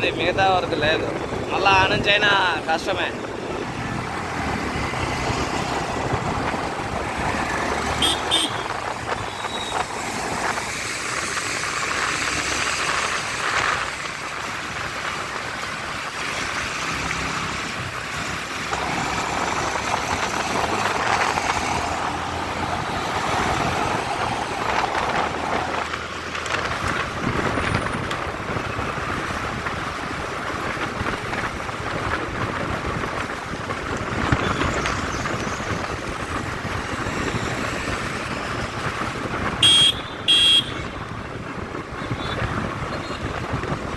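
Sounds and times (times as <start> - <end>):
road traffic: 0.0 - 43.9.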